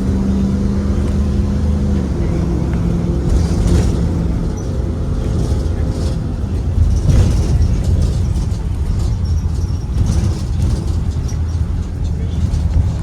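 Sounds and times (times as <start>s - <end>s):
bus cabin low rumble: 0.0s - 13.0s.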